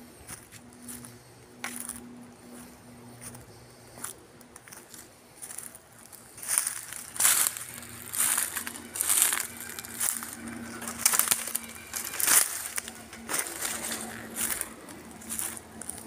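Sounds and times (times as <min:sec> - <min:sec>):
footsteps crunching through dry leaves: 0:00.2 - 0:16.0.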